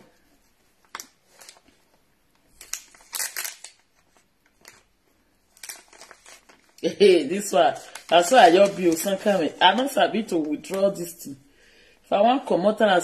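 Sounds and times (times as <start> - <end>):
plastic wipes pack crinkling: 0.2 - 11.4.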